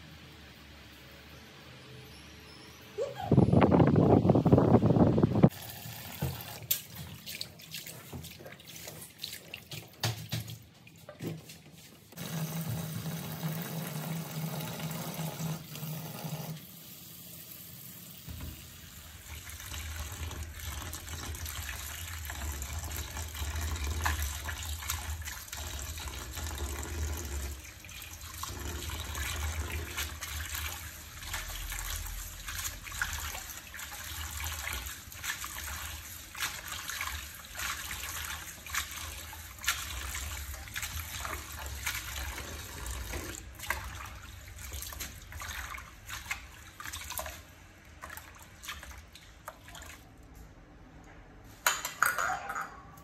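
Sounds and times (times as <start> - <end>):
tap water running into basin: 5.5 - 11.5, 12.2 - 50.0.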